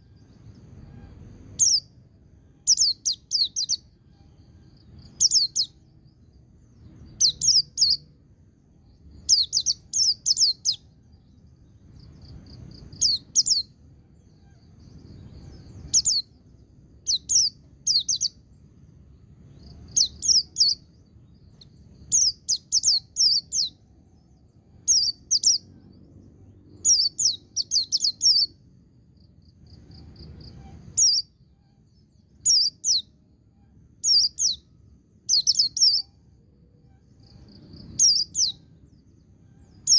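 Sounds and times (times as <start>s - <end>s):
small bird singing high phrases: 0.0s - 39.9s.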